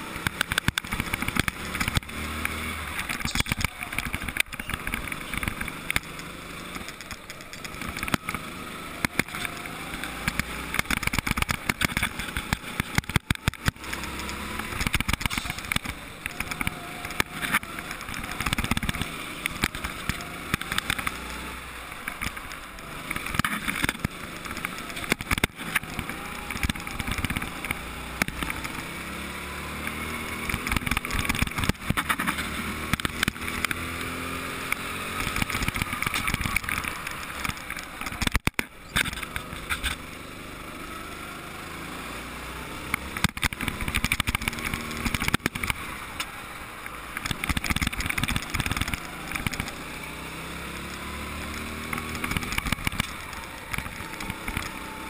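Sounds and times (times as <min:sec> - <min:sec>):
go-kart motor revving: 0:00.0 - 0:55.0.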